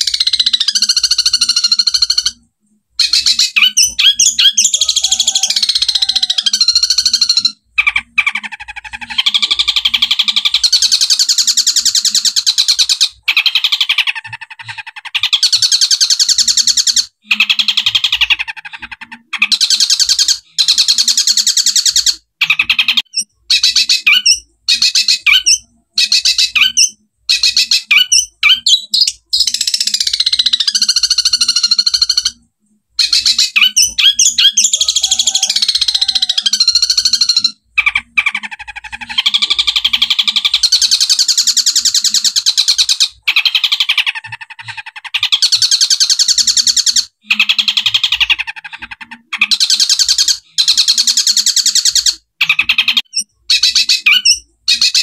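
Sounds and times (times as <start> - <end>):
bird chattering song: 0.0 - 55.0.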